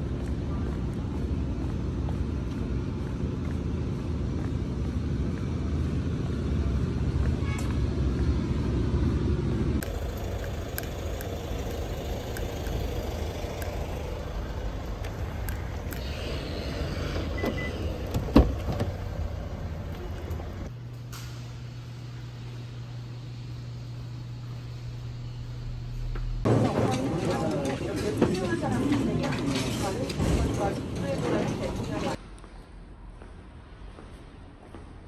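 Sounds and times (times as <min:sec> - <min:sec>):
low street rumble: 0:00.0 - 0:35.0.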